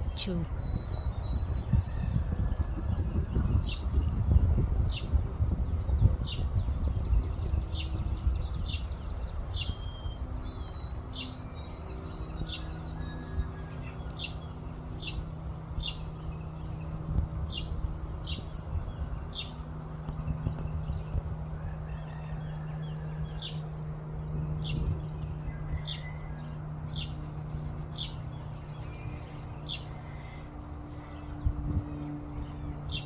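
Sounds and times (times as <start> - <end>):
bird chirping: 0.0 - 2.2, 5.7 - 33.0
steady low hum: 0.0 - 33.0
wind rumble on microphone: 0.0 - 33.0.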